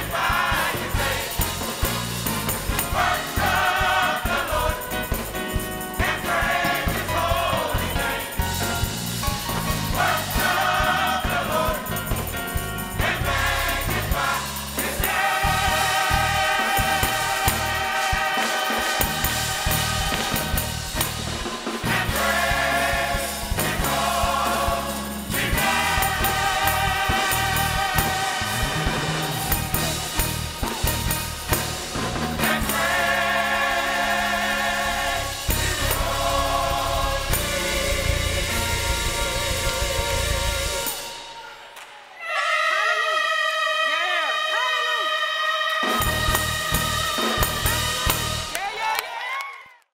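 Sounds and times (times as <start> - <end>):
drum kit: 0.0 - 41.5, 45.9 - 48.9
keyboard accompaniment: 0.0 - 41.7, 45.8 - 48.8
gospel choir singing: 0.0 - 49.4.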